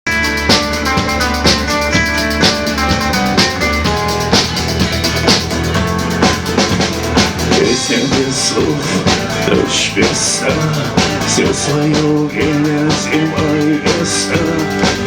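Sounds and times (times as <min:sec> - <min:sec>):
rock band playing: 0:00.0 - 0:15.0
drum kit beat: 0:00.1 - 0:15.0.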